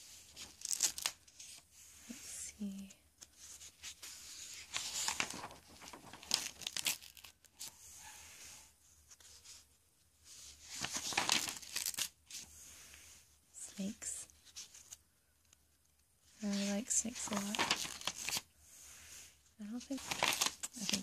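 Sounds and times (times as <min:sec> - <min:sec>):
notebook pages rustling: 0:00.0 - 0:13.1, 0:13.7 - 0:15.0, 0:16.3 - 0:21.0.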